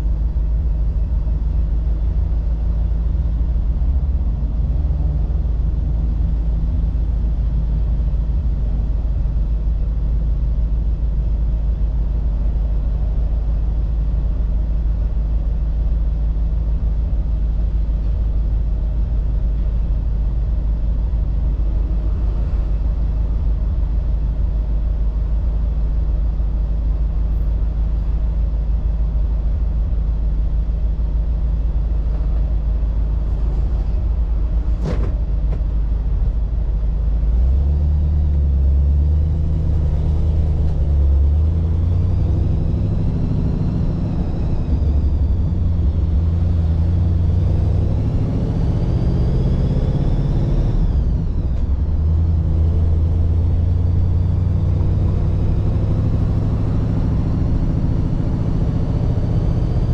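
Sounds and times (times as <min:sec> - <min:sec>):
car engine rumbling: 0:00.0 - 0:59.9
road noise: 0:00.0 - 0:59.9.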